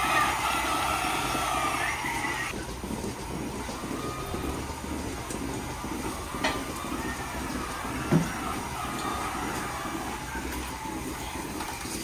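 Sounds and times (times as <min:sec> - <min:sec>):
milking machinery humming and rattling: 0:00.0 - 0:12.0.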